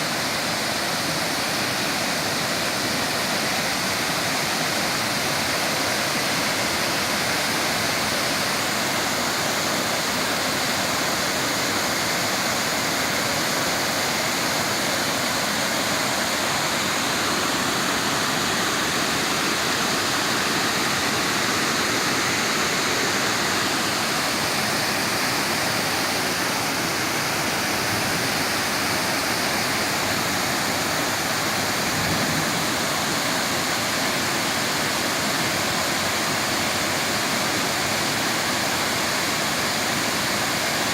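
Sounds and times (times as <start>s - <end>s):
waterfall crashing: 0.0s - 40.9s.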